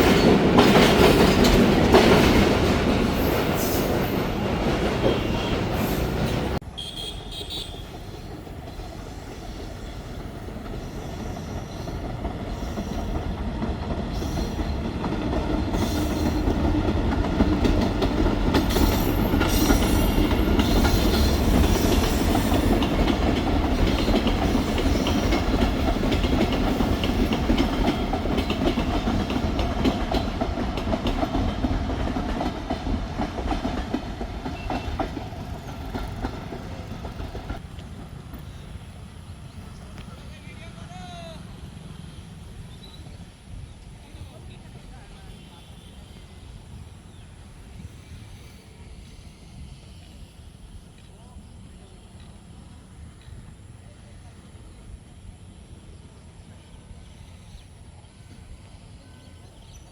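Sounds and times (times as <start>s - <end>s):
train wheels clicking on rails: 0.0s - 59.9s.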